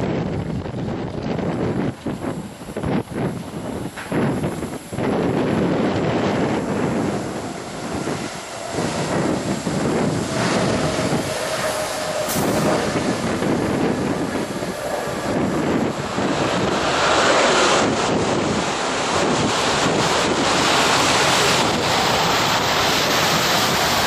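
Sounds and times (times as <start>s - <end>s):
jet engines roaring at takeoff: 0.0s - 24.0s
wind buffeting microphone: 0.0s - 24.0s.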